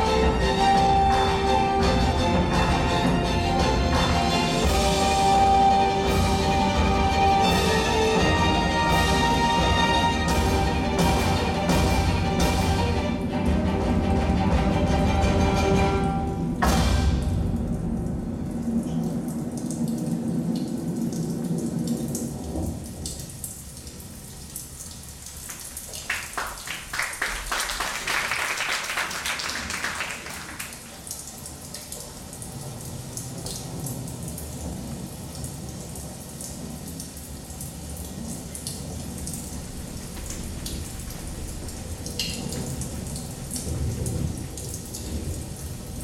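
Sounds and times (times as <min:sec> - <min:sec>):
rain patter: 0:00.0 - 0:46.0.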